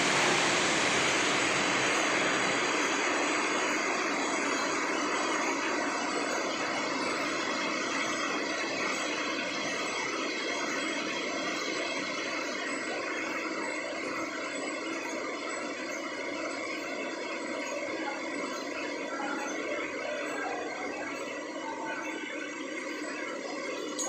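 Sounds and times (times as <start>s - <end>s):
machine mechanical drone: 0.0s - 24.0s
steady machine whine: 0.0s - 24.0s.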